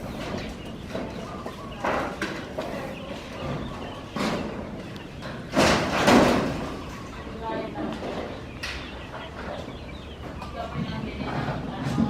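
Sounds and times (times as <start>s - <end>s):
construction knocks and clatters: 0.0s - 7.0s, 7.7s - 12.0s
steady background noise: 0.0s - 12.0s.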